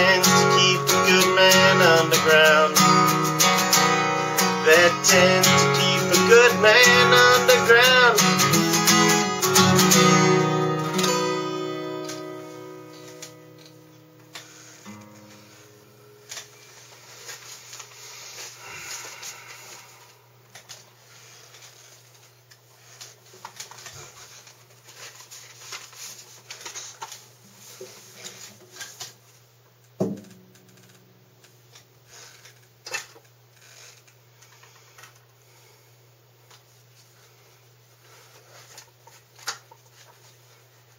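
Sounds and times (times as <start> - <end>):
low electrical hum: 0.0 - 40.9.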